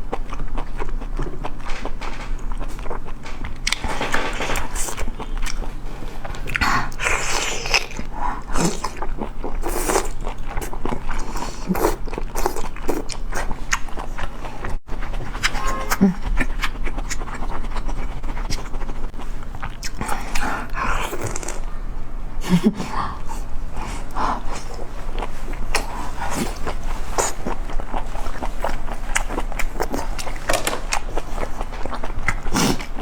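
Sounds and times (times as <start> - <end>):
wet chewing clicks: 0.0 - 21.8, 23.4 - 33.0.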